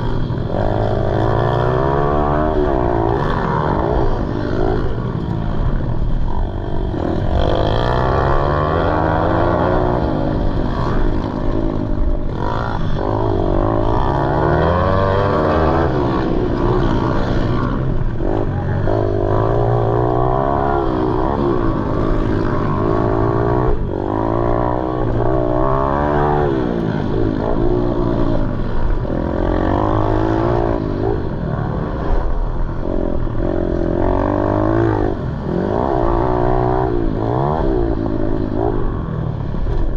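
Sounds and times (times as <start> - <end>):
motorbike engines revving: 0.0 - 39.9.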